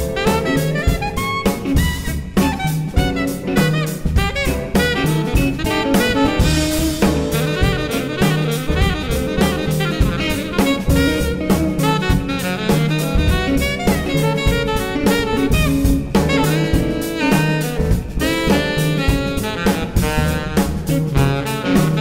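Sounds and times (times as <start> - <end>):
jazz band playing: 0.0 - 22.0.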